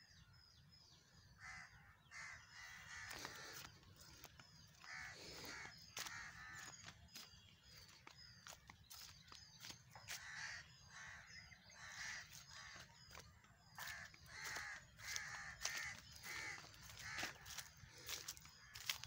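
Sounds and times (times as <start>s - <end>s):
small birds chirping: 0.0s - 19.0s
crows cawing: 1.4s - 19.0s.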